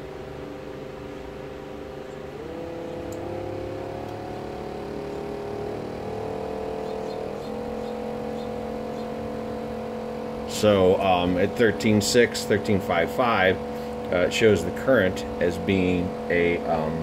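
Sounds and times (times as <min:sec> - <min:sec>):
small motor whining: 0:00.0 - 0:17.0.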